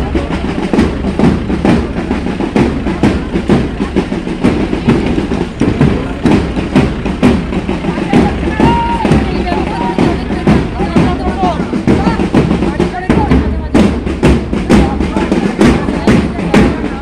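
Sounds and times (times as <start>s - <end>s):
marching drums beating: 0.0s - 17.0s.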